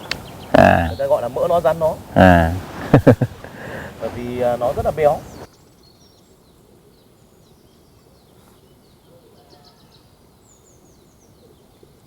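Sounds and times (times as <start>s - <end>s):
low steady background hiss: 0.0s - 12.0s
small birds chirping: 0.0s - 12.0s.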